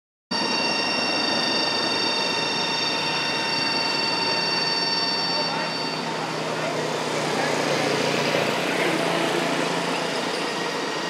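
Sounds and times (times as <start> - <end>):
high even whine: 0.3 - 11.0
roadside background noise: 0.4 - 11.0.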